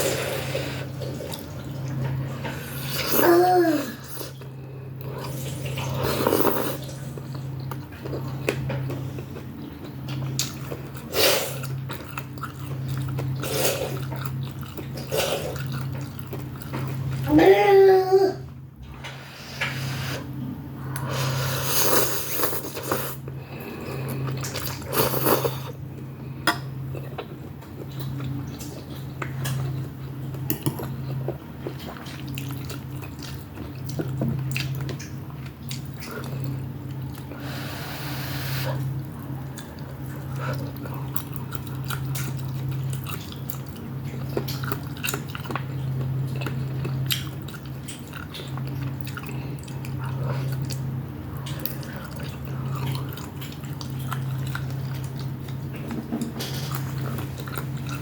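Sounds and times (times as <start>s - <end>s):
close chewing and eating noodles: 0.0s - 18.2s, 19.2s - 58.0s
steady low hum: 0.0s - 58.0s.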